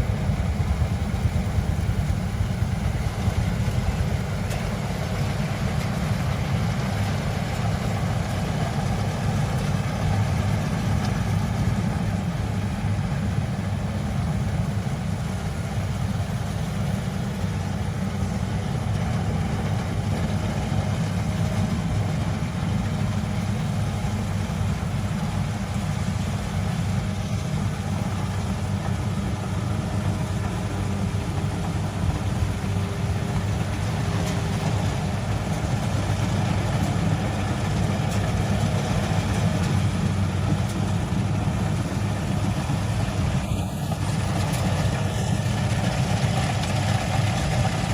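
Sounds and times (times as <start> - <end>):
harvester engine running: 0.0 - 47.9.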